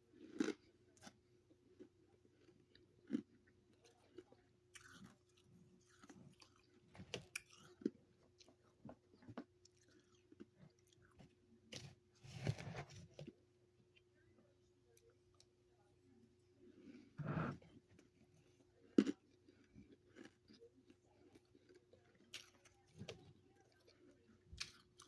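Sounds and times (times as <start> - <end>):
chewing crunchy frost: 0.0 - 14.1, 16.6 - 25.0.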